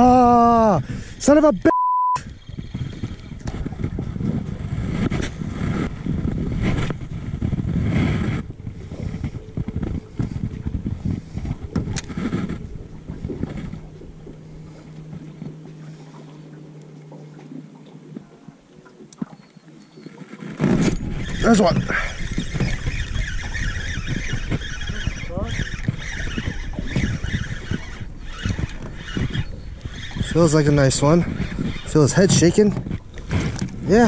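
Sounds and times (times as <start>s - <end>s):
wind rumbling on microphone: 0.0s - 1.6s, 2.2s - 34.0s
low boat motor hum: 0.0s - 34.0s.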